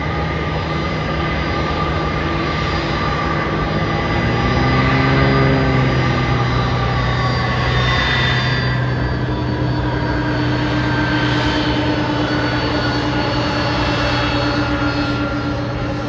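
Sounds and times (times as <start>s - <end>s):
jet engine whine: 0.0s - 16.0s.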